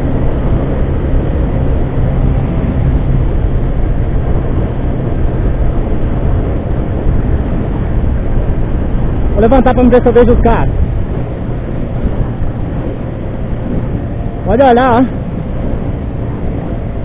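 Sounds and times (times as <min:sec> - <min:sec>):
motorcycle engine droning: 0:00.0 - 0:17.0
wind rushing: 0:00.0 - 0:17.0.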